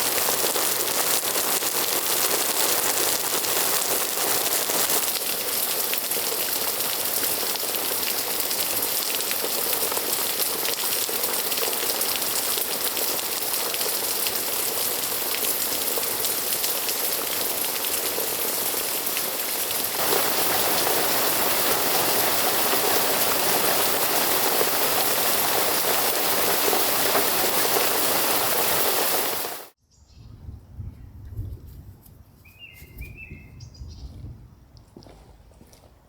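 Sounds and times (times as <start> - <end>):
heavy rain downpour: 0.0 - 29.8.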